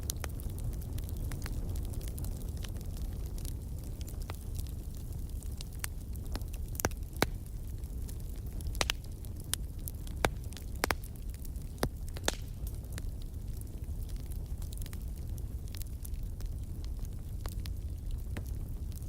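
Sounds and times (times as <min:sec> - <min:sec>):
campfire flames rumbling: 0:00.0 - 0:19.0
wood crackling and popping: 0:00.0 - 0:19.0.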